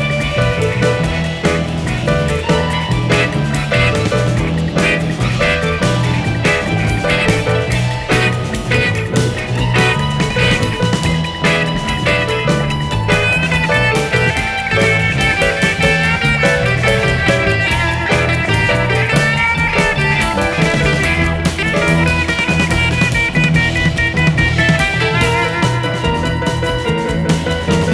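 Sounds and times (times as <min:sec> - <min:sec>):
guitar-led instrumental music: 0:00.0 - 0:27.9.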